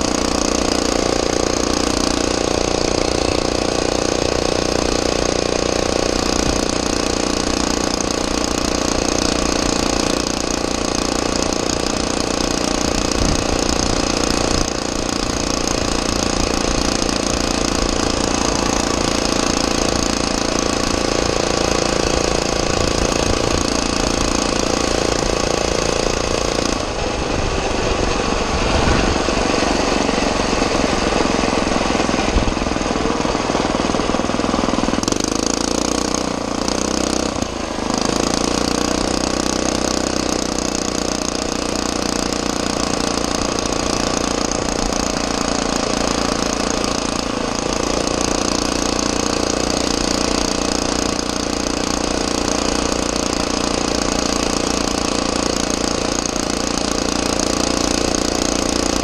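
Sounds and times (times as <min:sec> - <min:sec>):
small engine running under load: 0:00.0 - 0:59.0.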